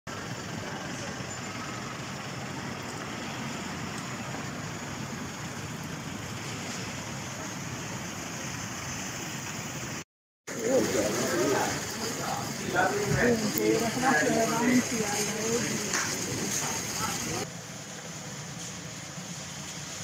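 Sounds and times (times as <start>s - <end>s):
road traffic hum: 0.1s - 20.0s.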